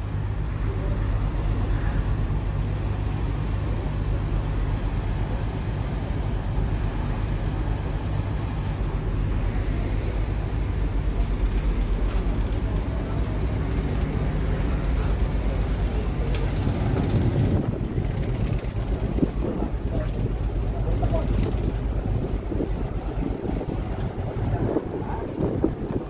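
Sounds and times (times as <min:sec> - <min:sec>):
ship engines humming: 0:00.0 - 0:26.0
wind and water rushing: 0:00.0 - 0:26.0.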